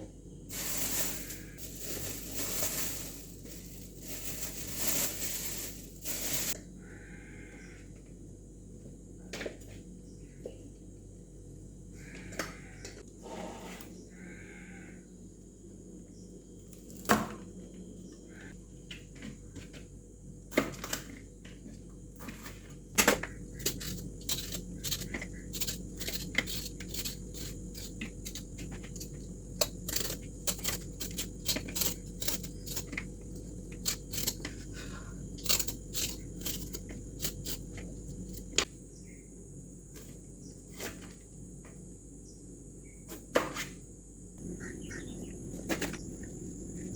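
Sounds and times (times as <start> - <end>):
steady low hum: 0.0 - 13.2, 21.2 - 43.1, 43.8 - 46.9.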